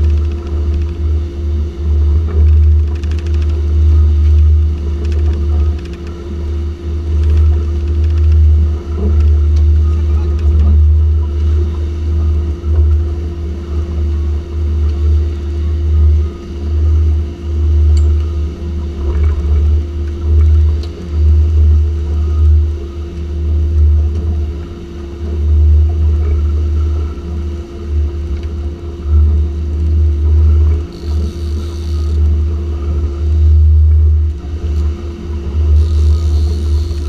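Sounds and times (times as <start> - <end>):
outboard motors running: 0.0 - 37.0.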